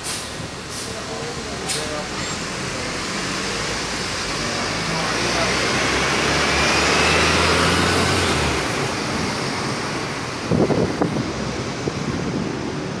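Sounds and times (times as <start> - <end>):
bus engine hum: 0.0 - 13.0
road noise: 0.0 - 13.0
street traffic: 0.0 - 13.0.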